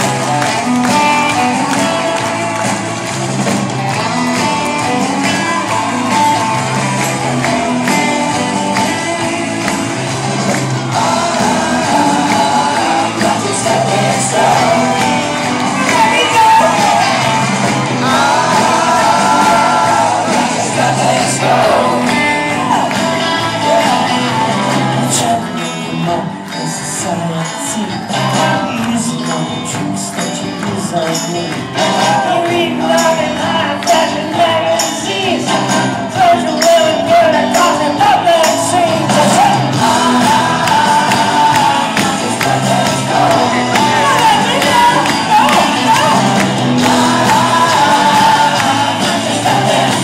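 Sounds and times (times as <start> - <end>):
crowd shouting: 0.0 - 28.8, 38.2 - 50.0
live rock band playing: 0.0 - 50.0
lead singer singing: 3.9 - 50.0.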